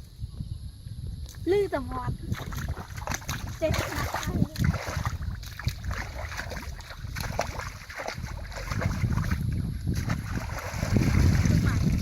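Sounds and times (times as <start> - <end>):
wind rumble on microphone: 0.0 - 12.0
water sloshing and splashing: 2.3 - 12.0.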